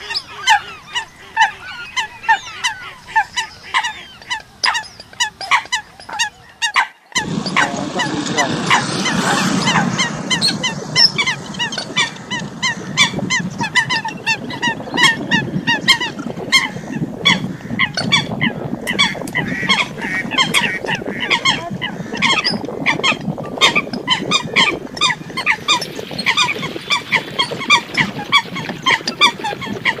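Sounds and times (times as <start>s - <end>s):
coots honking calls: 0.0s - 30.0s.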